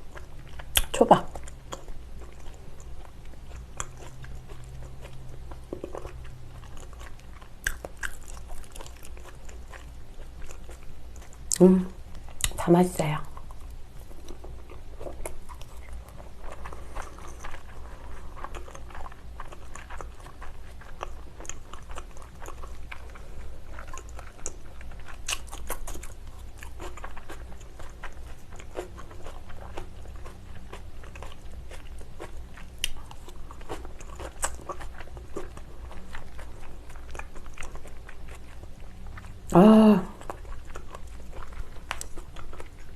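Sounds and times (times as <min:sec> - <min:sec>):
wet chewing sounds: 0:00.0 - 0:12.6, 0:13.2 - 0:42.9.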